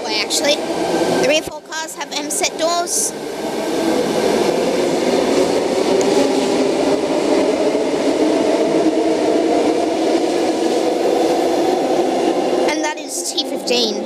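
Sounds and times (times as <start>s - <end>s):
electric train running: 0.0s - 14.0s.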